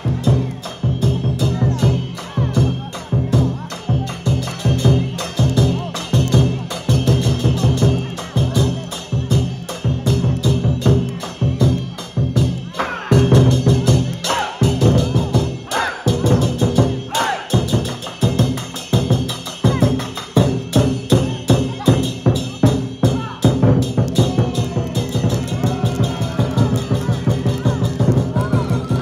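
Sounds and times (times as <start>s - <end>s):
crashing cymbals: 0.0s - 29.0s
large drum beaten fast: 0.0s - 29.0s.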